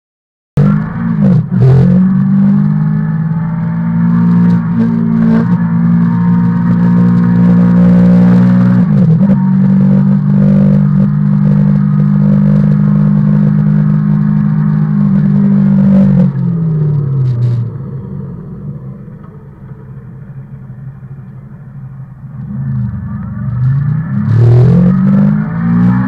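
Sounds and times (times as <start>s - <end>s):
motorcycle engine: 0.6s - 26.0s.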